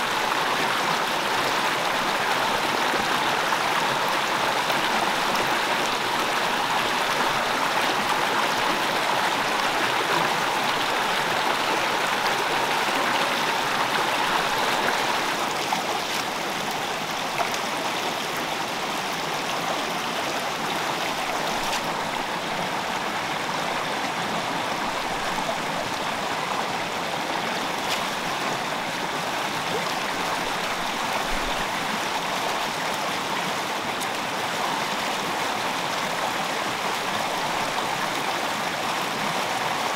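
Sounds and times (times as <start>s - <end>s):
stream splashing over stones: 0.0s - 39.9s.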